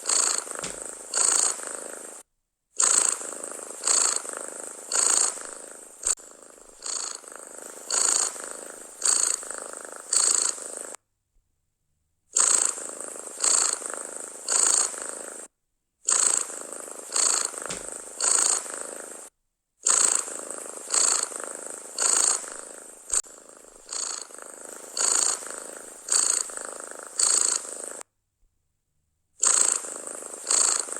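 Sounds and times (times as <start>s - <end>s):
cat purring loudly: 0.0s - 2.2s, 2.8s - 11.0s, 12.3s - 28.0s, 29.4s - 30.9s.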